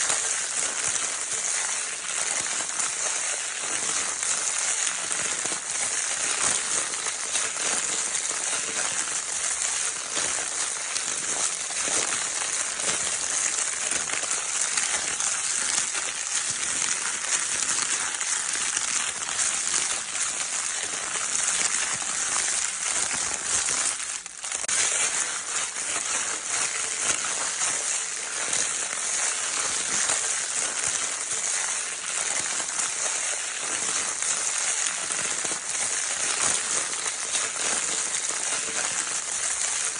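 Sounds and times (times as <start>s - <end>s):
crinkle paper toy crinkling: 0.0s - 39.9s.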